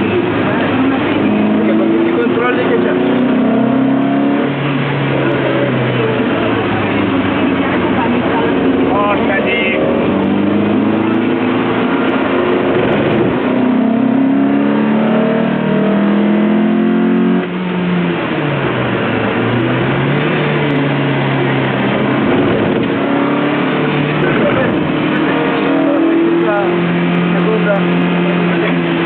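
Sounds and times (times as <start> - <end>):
car engine accelerating: 0.0 - 29.0
wind and tyre noise: 0.0 - 29.0.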